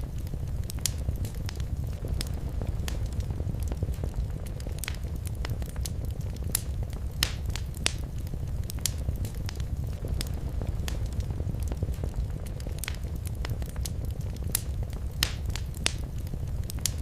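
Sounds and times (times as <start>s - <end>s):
fire crackling pops: 0.0s - 17.0s
fire rumbling: 0.0s - 17.0s.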